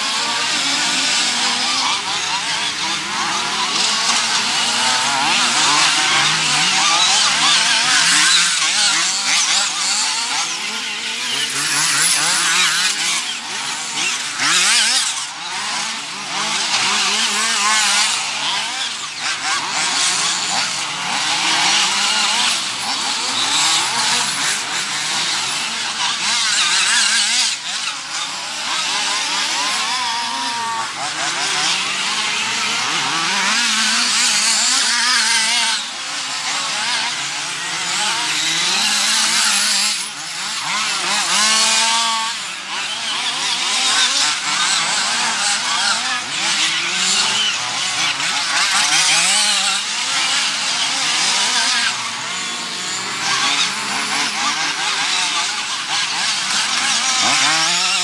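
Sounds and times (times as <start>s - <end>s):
small engines buzzing at high revs: 0.0s - 58.0s.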